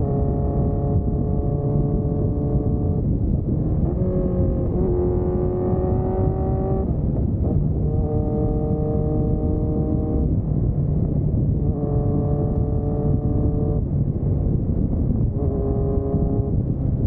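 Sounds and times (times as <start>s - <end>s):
heavy wind rumble: 0.0s - 17.0s
motorcycle engine running: 0.0s - 17.0s.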